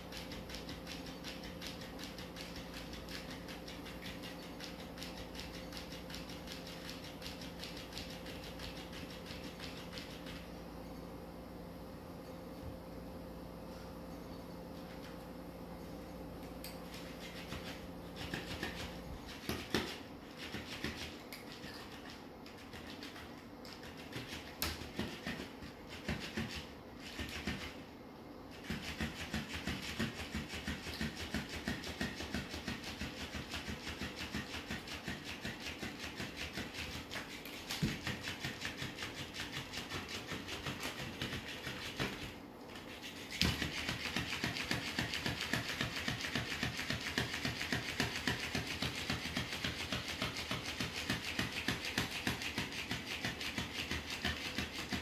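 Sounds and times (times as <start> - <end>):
toy fish tail slapping tile floor: 0.0 - 10.5, 16.5 - 27.8, 28.5 - 55.0.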